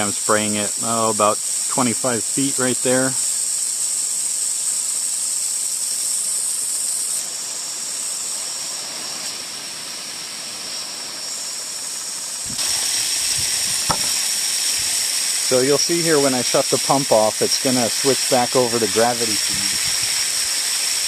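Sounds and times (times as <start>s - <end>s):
hose water jet hissing: 0.0s - 21.0s.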